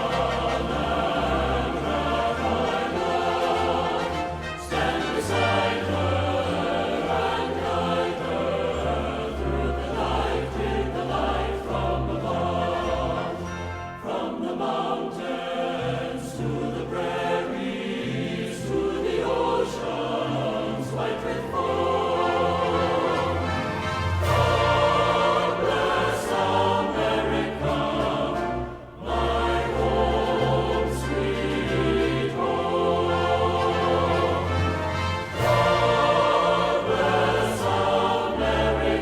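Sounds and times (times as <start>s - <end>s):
choir singing with orchestra: 0.0s - 39.0s.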